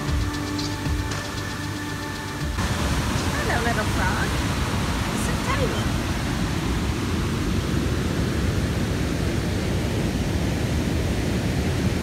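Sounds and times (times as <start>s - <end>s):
waterfall roaring: 2.2s - 12.0s.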